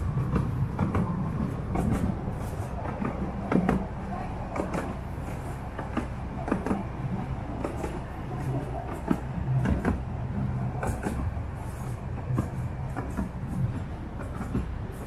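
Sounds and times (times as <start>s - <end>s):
train engine hum: 0.0s - 15.0s
wheels clicking over rails: 0.0s - 15.0s.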